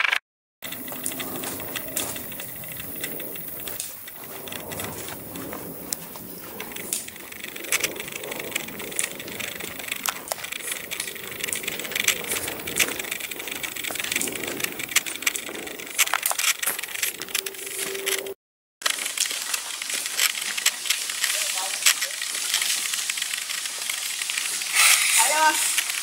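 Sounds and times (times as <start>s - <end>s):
footsteps crunching on gravel: 0.6s - 17.9s, 18.9s - 26.0s.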